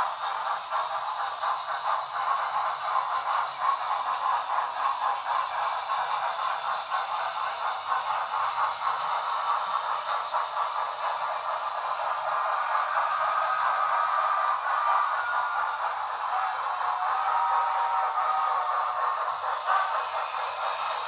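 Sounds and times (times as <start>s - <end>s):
model steam locomotive chuffing: 0.0s - 21.0s.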